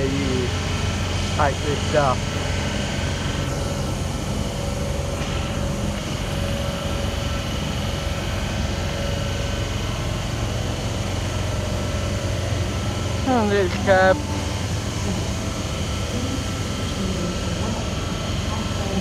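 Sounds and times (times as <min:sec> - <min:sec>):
electric train humming: 0:00.0 - 0:19.0
faint steady whine: 0:00.0 - 0:19.0.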